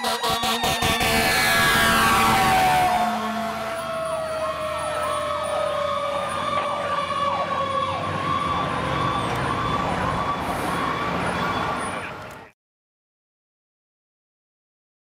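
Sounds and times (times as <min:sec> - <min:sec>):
electronic siren yelping: 0:00.0 - 0:12.5
mechanical siren wail: 0:00.0 - 0:12.5.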